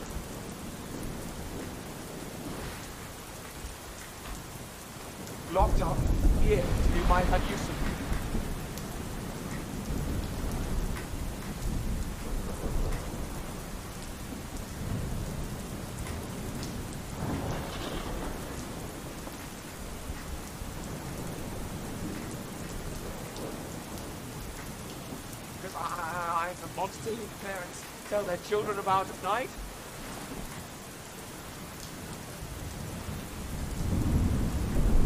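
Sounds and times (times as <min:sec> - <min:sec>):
pouring rain: 0:00.0 - 0:35.0
thunder rumbles: 0:00.0 - 0:35.0.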